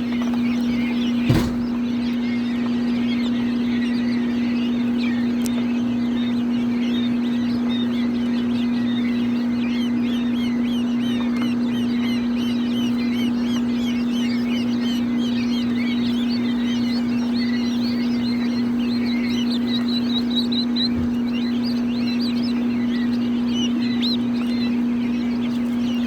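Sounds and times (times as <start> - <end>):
baby chicks peeping: 0.0 - 26.0
steady low hum: 0.0 - 26.0.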